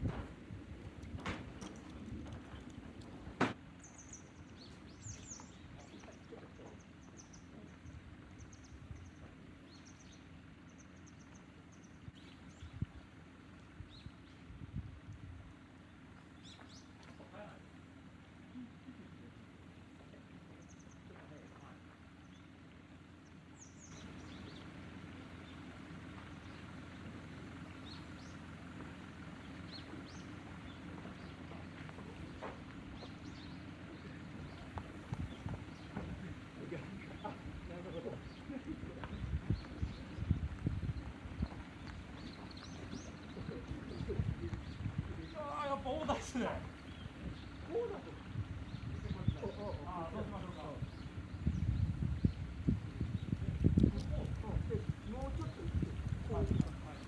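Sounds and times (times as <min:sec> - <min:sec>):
low steady hum: 0:00.0 - 0:57.0
steady low rumble: 0:00.0 - 0:57.0
small birds chirping: 0:00.1 - 0:57.0.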